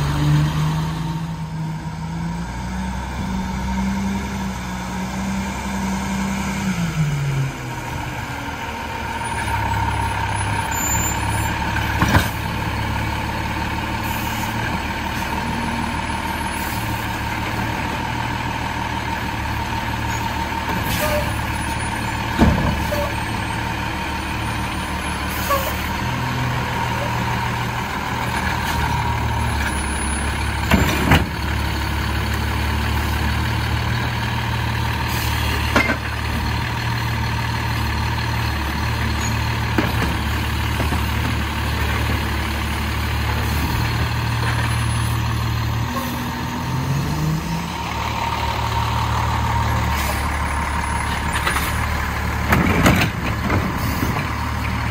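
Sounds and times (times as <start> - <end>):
truck engine running: 1.1 - 54.9.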